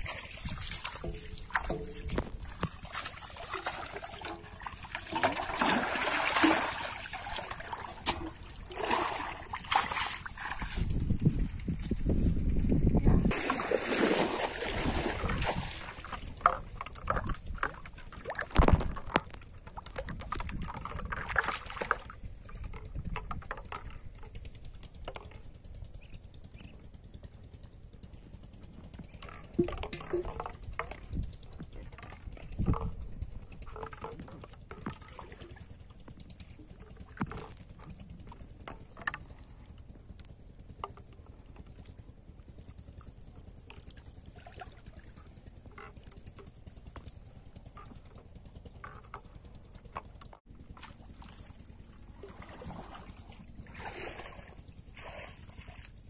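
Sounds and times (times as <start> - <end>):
water splashing and sloshing: 0.0 - 25.7, 28.1 - 56.0.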